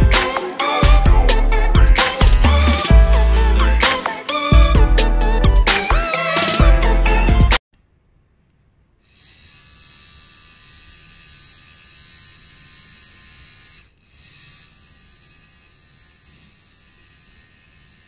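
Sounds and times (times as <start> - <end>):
tattoo machine buzzing: 0.0 - 7.5, 9.2 - 18.0.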